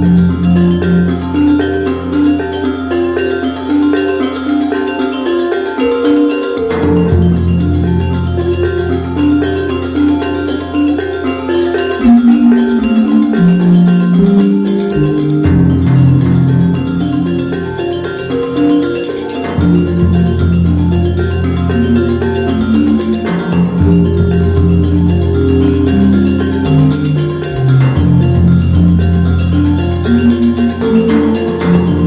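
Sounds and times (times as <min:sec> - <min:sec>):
instrumental music with beat: 0:00.0 - 0:32.0.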